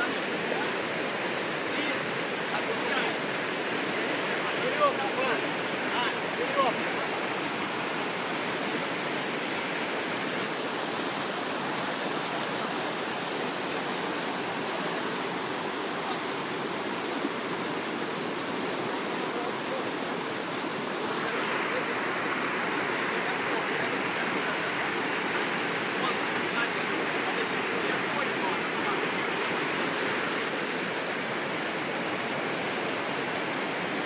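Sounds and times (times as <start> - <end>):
river rapids rushing over rocks: 0.0 - 34.0.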